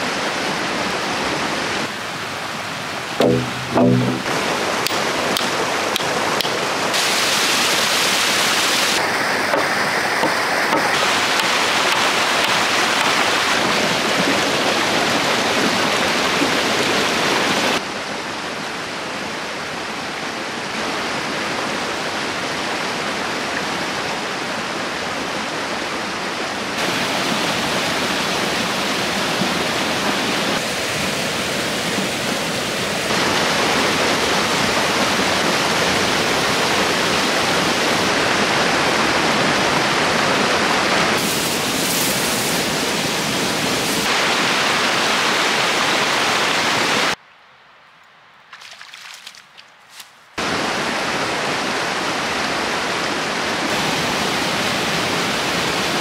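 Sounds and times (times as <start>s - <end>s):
water rushing over boulders: 0.0s - 47.2s, 50.4s - 56.0s.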